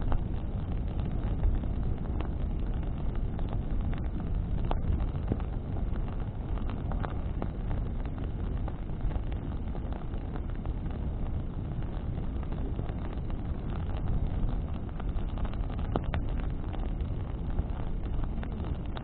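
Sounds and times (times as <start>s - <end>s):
burning branches crackling: 0.0s - 19.0s
fire popping: 0.0s - 19.0s
wind rumble on microphone: 0.0s - 19.0s.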